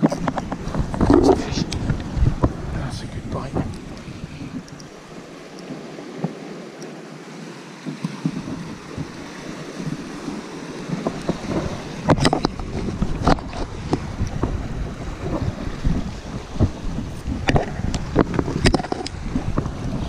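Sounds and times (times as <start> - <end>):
sea swell splashing on rock: 0.0 - 20.0
wind buffeting microphone: 0.0 - 20.0.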